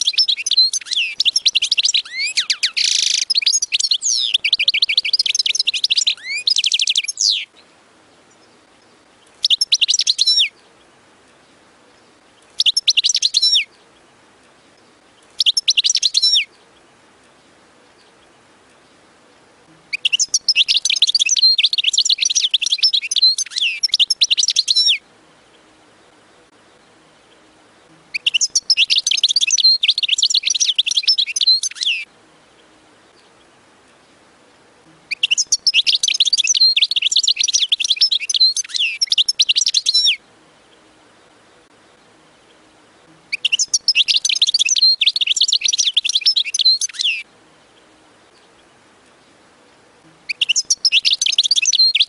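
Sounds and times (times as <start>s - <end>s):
goldfinch twittering song: 0.0s - 52.0s.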